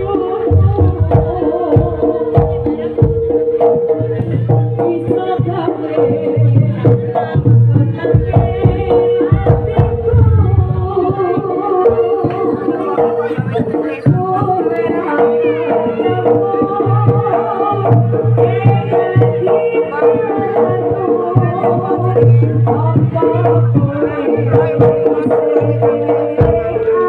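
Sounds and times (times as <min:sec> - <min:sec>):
hand drums beating: 0:00.0 - 0:27.0.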